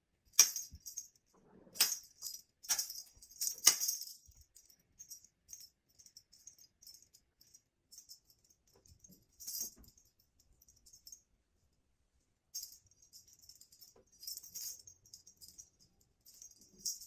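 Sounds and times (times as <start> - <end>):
cat toy jingling and rustling: 0.4 - 11.2, 12.5 - 17.0.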